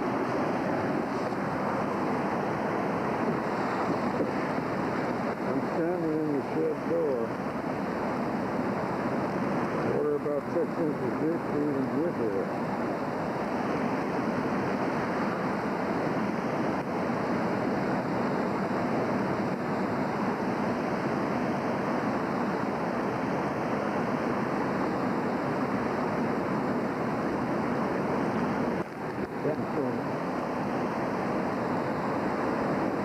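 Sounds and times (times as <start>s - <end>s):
river floodwater rushing: 0.0s - 33.0s.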